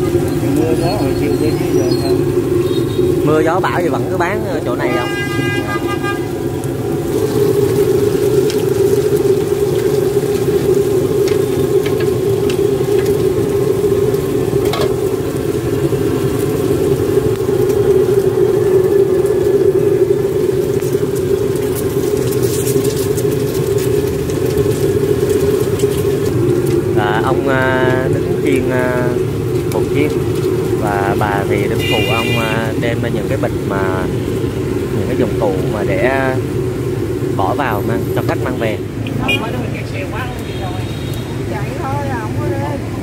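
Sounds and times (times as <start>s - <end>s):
low rumble: 0.0s - 31.8s, 32.6s - 40.2s
oil sizzling in wok: 0.0s - 43.0s.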